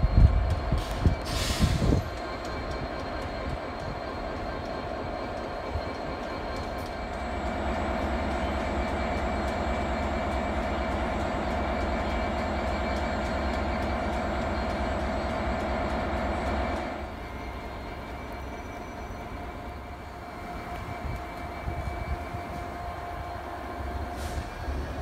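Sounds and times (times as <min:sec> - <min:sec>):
diesel locomotive engine rumble: 0:00.0 - 0:25.0
locomotive whine: 0:00.0 - 0:25.0.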